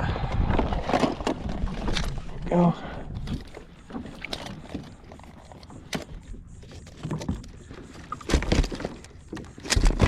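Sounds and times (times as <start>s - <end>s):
fish thrashing against kayak hull: 0.1s - 10.0s.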